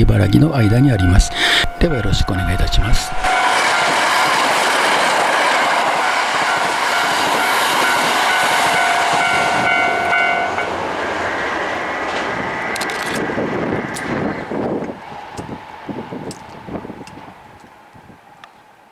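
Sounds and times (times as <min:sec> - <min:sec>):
steady tones: 0:00.0 - 0:17.7
electric train passing: 0:00.0 - 0:18.9
wheels rushing on rail: 0:00.0 - 0:18.9.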